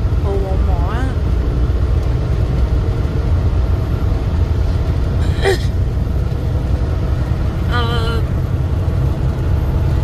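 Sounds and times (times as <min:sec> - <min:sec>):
road noise: 0:00.0 - 0:10.0
truck engine rumble: 0:00.0 - 0:10.0.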